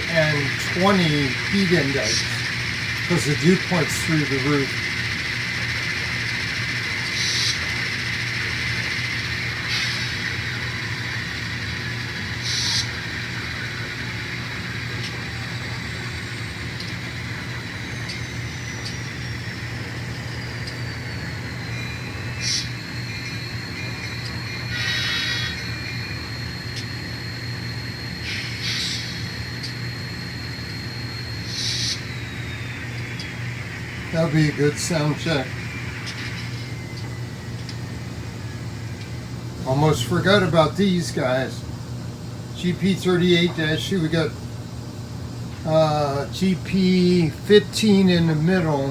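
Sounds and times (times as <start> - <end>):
faint high whine: 0.0 - 48.9.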